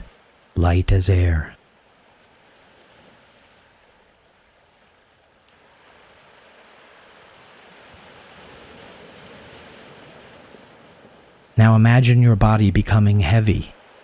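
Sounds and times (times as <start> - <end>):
soft ocean surf: 0.0 - 14.0.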